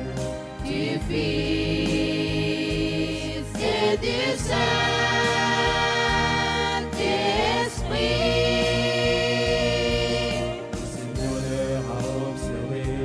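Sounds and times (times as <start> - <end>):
steady low bass: 0.0 - 13.0
youth choir singing: 0.0 - 13.0.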